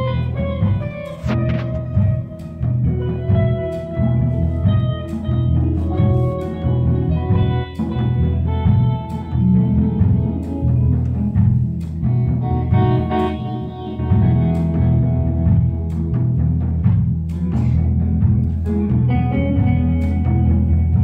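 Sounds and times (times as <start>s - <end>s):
drum and cymbal hits: 0.0s - 21.0s
electric bass: 0.0s - 21.0s
electric guitars ringing: 0.0s - 21.0s.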